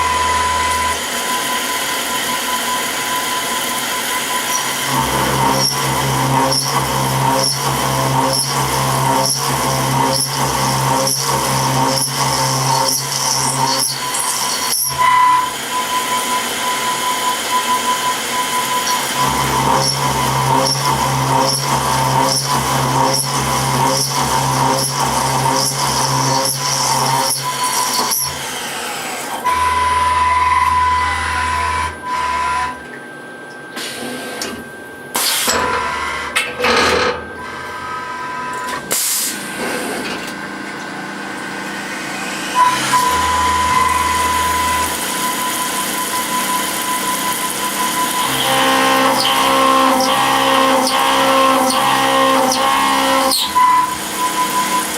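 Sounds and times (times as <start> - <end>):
milling machine motors whining: 0.0 - 33.8, 34.4 - 39.6, 40.3 - 54.9.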